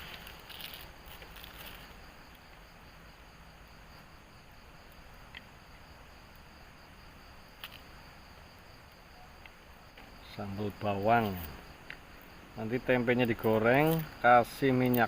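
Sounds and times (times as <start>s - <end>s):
chorus of insects: 0.0s - 15.0s
crackling rustle: 0.0s - 15.0s.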